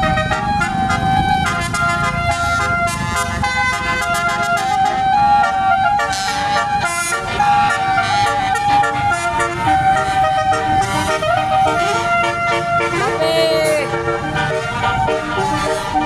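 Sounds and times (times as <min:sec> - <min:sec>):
bus horn playing a tune: 0:00.0 - 0:16.0.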